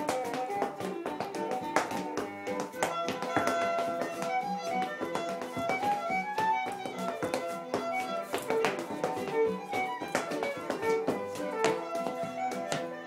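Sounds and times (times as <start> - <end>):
fiddle playing quick melody: 0.0 - 13.0
rhythmic accompaniment: 0.0 - 13.0.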